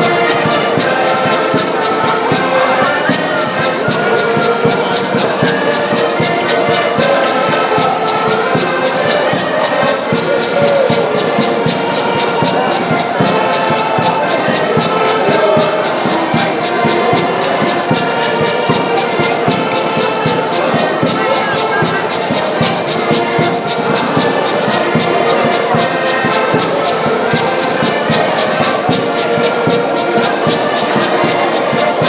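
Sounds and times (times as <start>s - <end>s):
live band with brass instruments: 0.0s - 32.0s.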